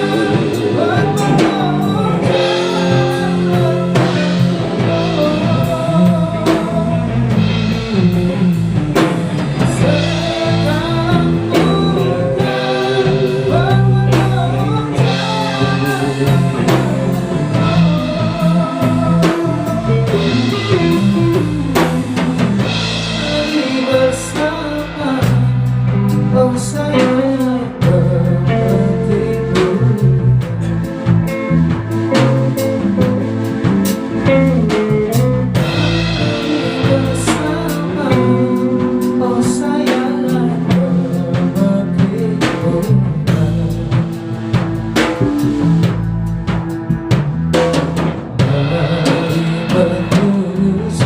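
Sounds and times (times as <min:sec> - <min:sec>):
bass: 0:00.0 - 0:51.0
drum kit: 0:00.0 - 0:51.0
electric guitar: 0:00.0 - 0:51.0
melodic lead line: 0:00.0 - 0:51.0.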